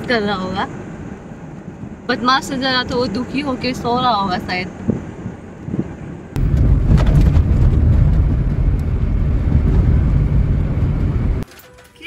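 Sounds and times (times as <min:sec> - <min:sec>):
car road and wind noise: 0:00.0 - 0:11.9.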